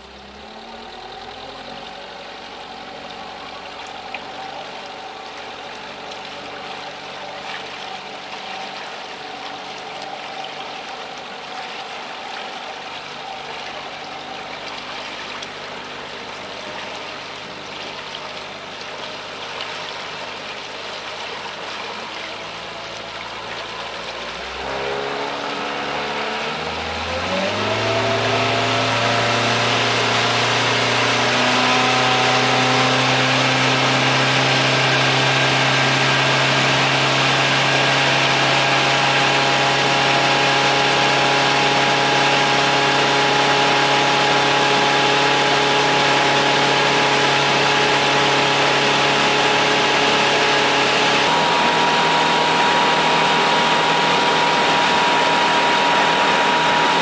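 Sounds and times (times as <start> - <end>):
outboard motor speeding up: 0.0 - 57.0.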